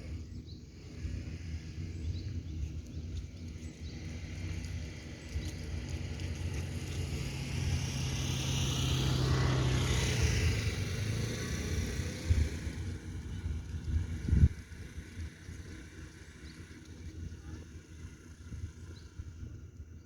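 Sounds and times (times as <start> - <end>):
steady low hum: 0.0 - 20.0
wind rumble on microphone: 0.0 - 20.0
sea wash: 2.6 - 19.2.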